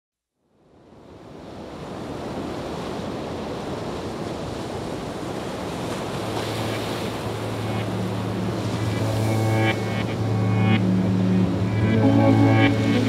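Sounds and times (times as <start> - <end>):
wind: 0.2 - 13.0
sea waves: 0.8 - 13.0.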